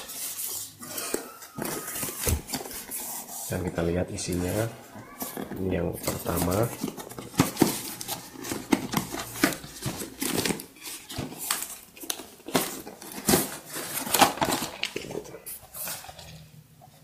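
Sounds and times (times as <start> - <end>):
cardboard packaging rustling: 0.0 - 17.0.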